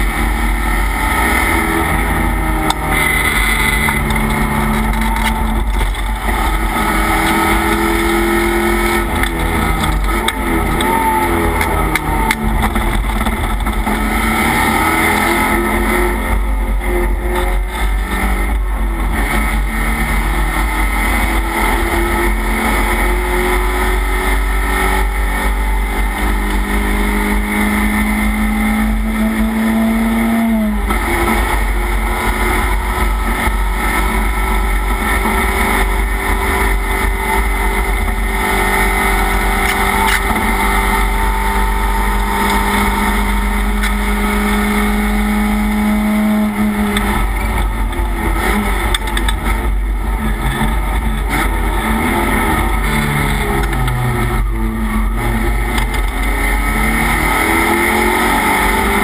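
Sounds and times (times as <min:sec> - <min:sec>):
race car engine revving: 0:00.0 - 0:59.0
wind and road noise: 0:00.0 - 0:59.0.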